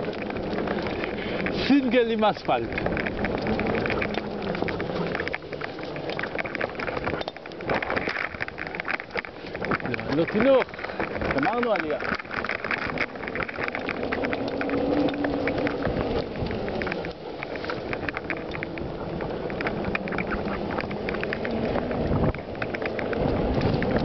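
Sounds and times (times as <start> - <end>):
bike rattling: 0.0 - 24.0
bike tyres crunching on gravel: 0.0 - 24.0.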